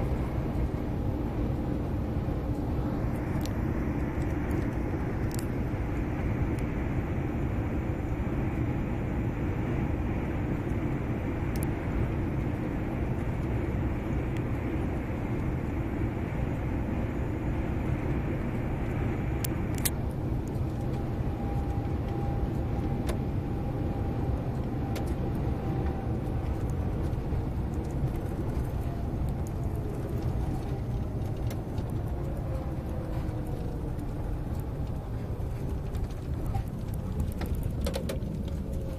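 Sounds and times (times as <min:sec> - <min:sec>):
diesel truck engine rumbling: 0:00.0 - 0:38.9.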